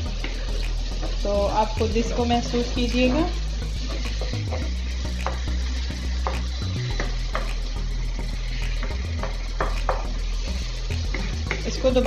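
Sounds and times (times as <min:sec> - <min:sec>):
masala sizzling in hot oil: 0:00.0 - 0:12.0
wooden spatula scraping a pan: 0:00.1 - 0:07.7, 0:08.4 - 0:12.0.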